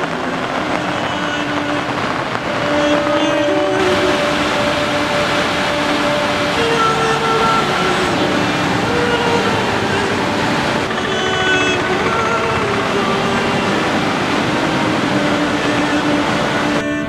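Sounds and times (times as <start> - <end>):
steady rushing noise: 0.0 - 17.0
background music of held notes: 3.3 - 17.0.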